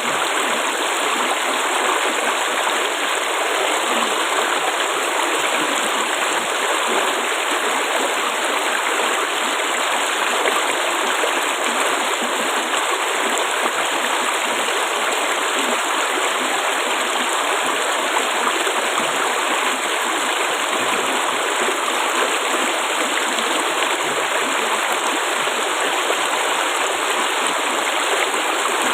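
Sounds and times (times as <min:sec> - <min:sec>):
water babbling and gurgling: 0:00.0 - 0:28.9.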